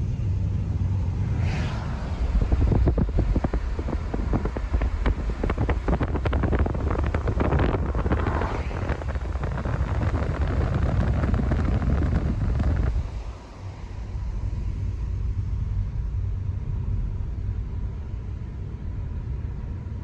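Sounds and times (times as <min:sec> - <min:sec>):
car rumbling: 0:00.0 - 0:20.0
wind buffeting microphone: 0:00.0 - 0:20.0.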